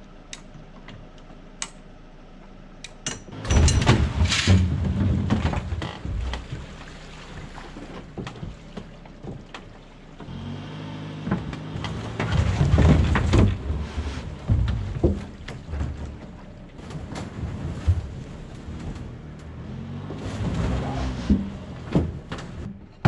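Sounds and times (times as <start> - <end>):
car engine pulling under load: 0.0 - 23.0
wooden deck and barrels dragging: 3.3 - 23.0.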